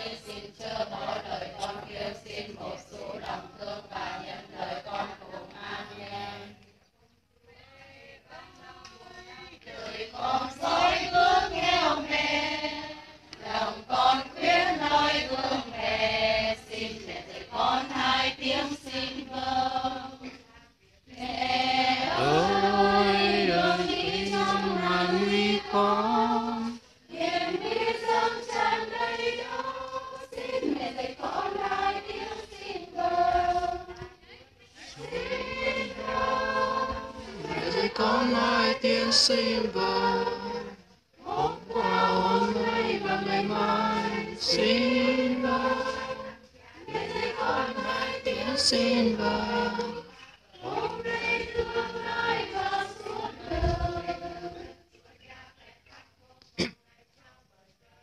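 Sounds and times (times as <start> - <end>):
women chanting prayers: 0.0 - 58.0.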